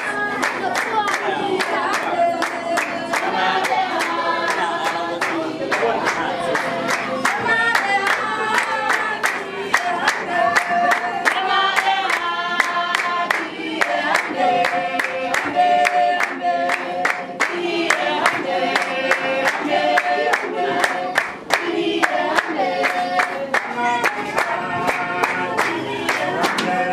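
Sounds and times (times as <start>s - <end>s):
steady handclapping: 0.0s - 26.9s
women singing in unison: 0.0s - 26.9s.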